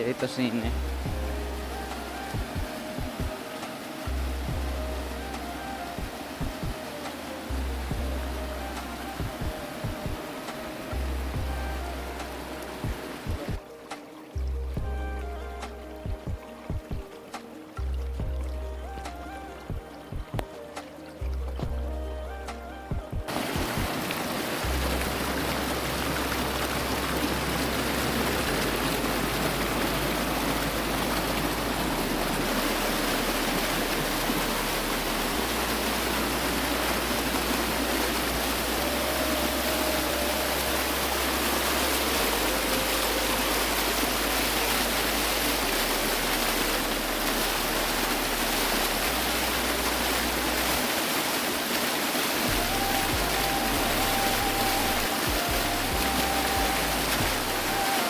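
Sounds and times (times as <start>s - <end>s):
music with low bass notes: 0.0s - 50.9s, 52.4s - 57.9s
small waterfall rushing: 0.0s - 58.0s.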